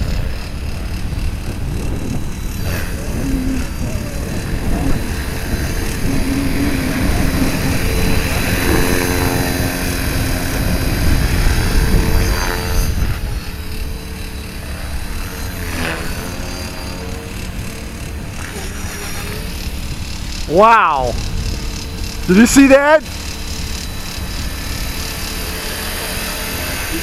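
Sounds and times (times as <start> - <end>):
model helicopter rotor hum: 0.0 - 27.0.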